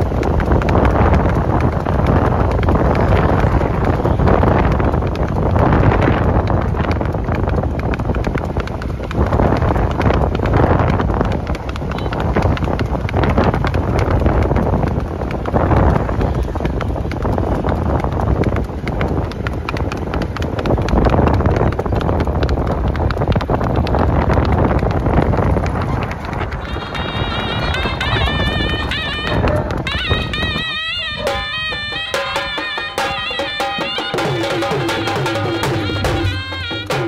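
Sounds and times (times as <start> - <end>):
horse hooves on asphalt: 0.0 - 37.0.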